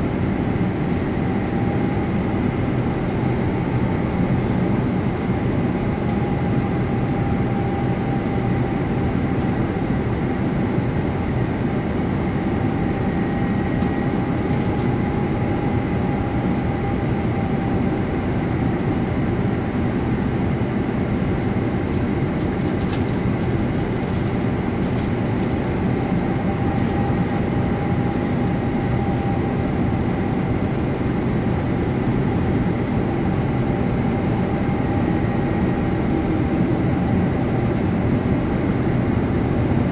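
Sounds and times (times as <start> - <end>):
airliner cabin engine roar: 0.0 - 39.9
faint steady whine: 0.0 - 39.9.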